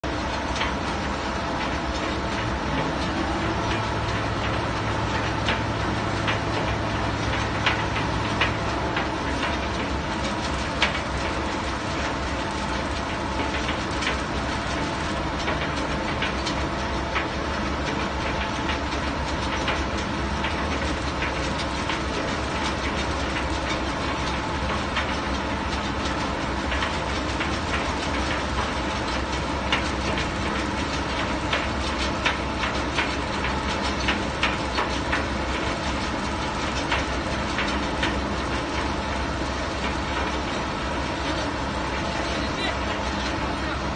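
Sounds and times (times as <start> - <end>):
heavy diesel engine running: 0.0 - 43.9
steel track and rigging clanks: 0.2 - 43.9.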